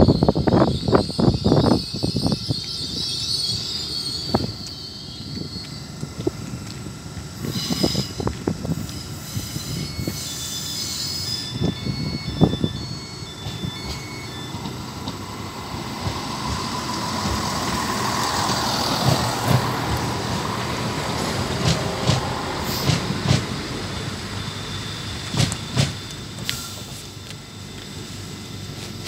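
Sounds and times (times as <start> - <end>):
train wheels running: 0.0 - 29.0.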